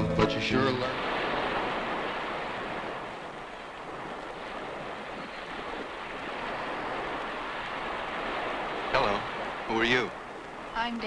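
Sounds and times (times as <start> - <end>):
ocean waves washing on beach: 0.0 - 11.0.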